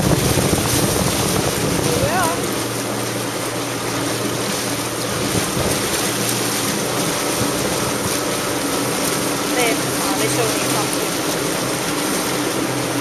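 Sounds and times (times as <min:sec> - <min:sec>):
jet ski engine running: 0:00.0 - 0:13.0
rush of water and wind: 0:00.0 - 0:13.0.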